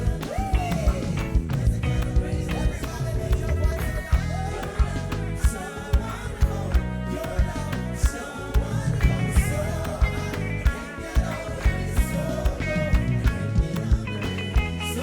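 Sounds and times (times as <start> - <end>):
reggae band playing: 0.0 - 15.0.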